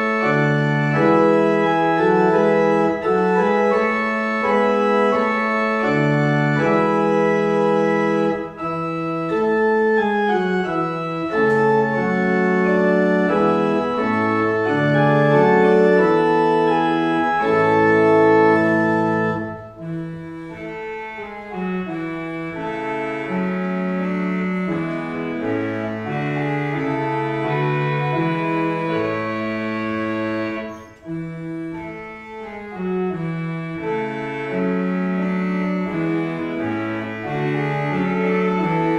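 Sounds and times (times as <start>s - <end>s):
church organ playing chords: 0.0s - 38.9s.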